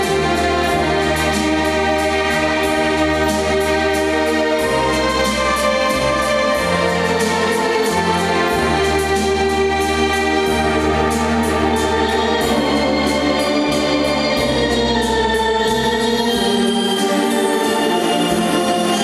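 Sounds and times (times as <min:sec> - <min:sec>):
theatre organ playing dance music: 0:00.0 - 0:19.0.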